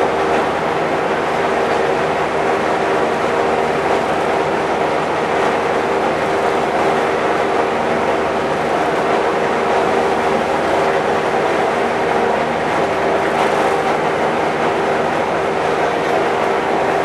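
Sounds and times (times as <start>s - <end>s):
steady machine drone: 0.0s - 17.0s.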